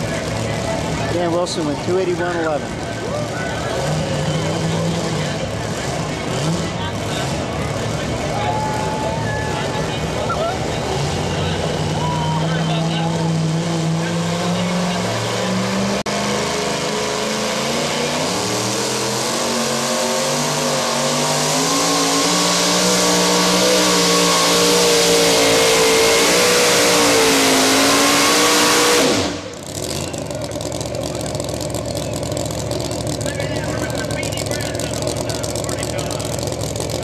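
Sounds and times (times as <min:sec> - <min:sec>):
truck engine at full throttle: 0:00.0 - 0:37.0.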